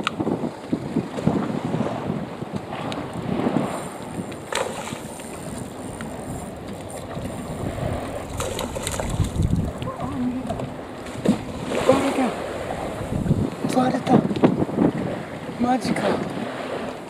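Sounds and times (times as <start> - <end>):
water sloshing against quay: 0.0 - 17.0
wind gusting across microphone: 0.0 - 17.0.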